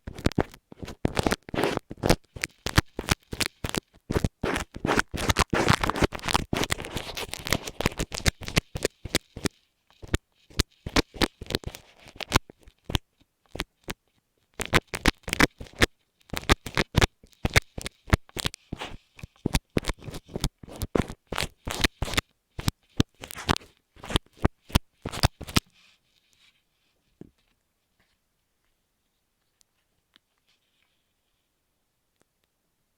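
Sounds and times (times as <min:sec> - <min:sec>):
scratching on microphone: 0:00.0 - 0:27.0.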